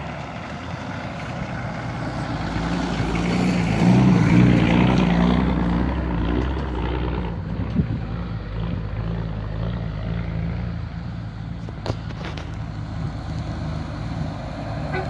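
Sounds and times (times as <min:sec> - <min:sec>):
off-road engines at low revs: 0:00.0 - 0:15.0.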